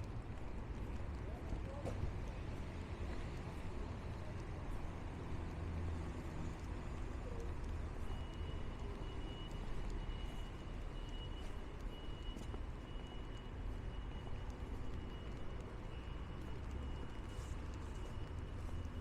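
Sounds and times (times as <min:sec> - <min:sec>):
city street traffic rumbling: 0:00.0 - 0:19.0.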